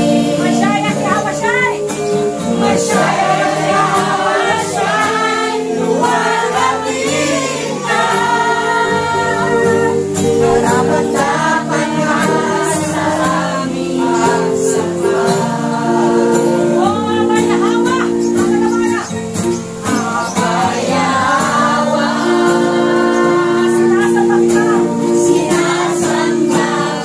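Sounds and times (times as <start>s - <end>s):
congregation singing in unison: 0.0s - 17.4s, 19.1s - 27.0s
electronic keyboard chords: 0.0s - 27.0s.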